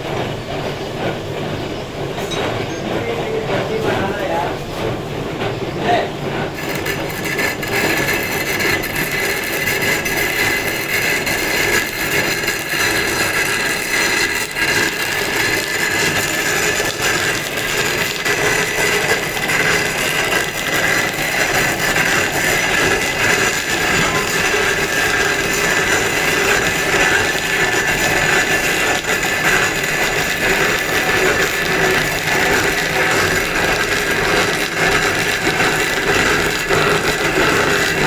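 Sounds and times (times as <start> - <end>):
power tool cutting stone: 6.5 - 38.0.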